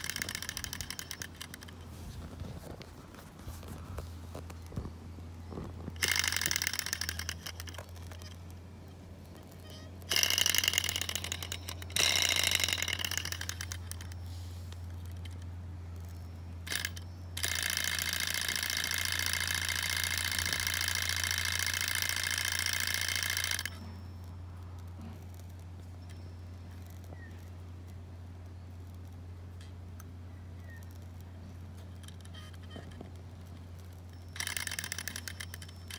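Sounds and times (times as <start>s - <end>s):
model engine metallic rattling whir: 0.0s - 35.9s.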